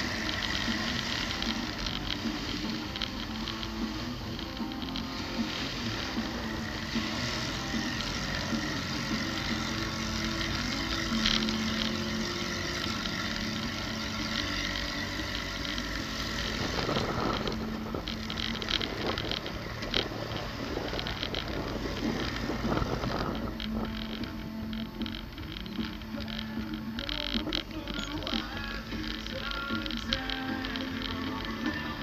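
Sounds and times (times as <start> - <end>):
tyres rumbling over sand: 0.0 - 32.0
vehicle engine running: 0.0 - 32.0
wheels crackling and knocking: 0.0 - 32.0.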